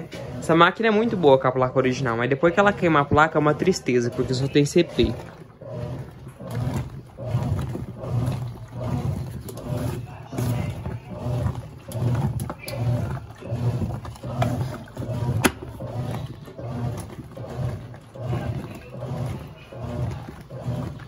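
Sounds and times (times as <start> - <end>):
washing machine agitating water: 0.0 - 21.0.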